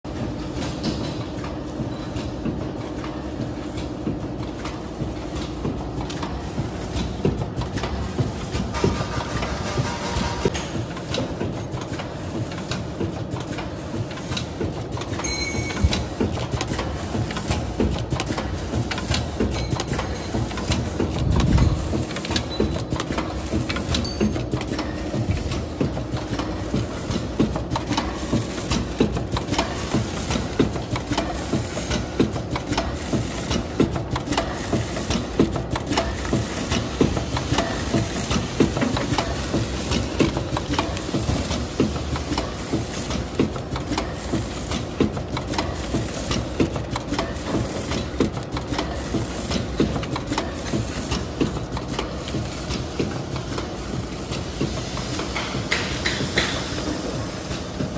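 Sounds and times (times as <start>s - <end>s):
packaging machine clattering: 5.7s - 54.6s.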